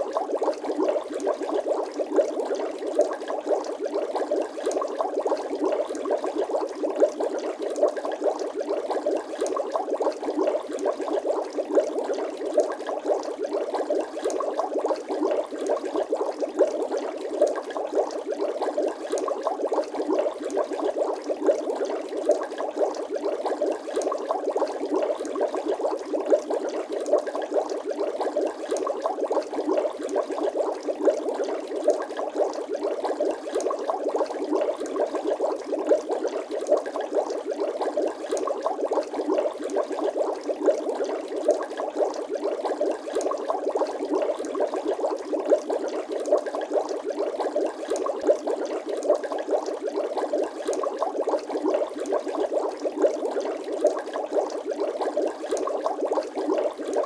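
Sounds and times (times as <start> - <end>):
water bubbling and gurgling: 0.0 - 57.0.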